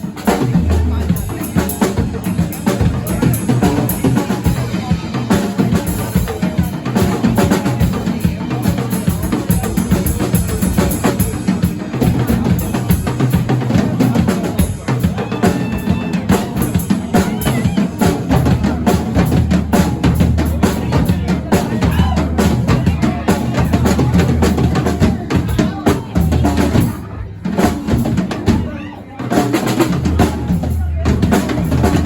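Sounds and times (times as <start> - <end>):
music with drum-kit beat: 0.0 - 32.0.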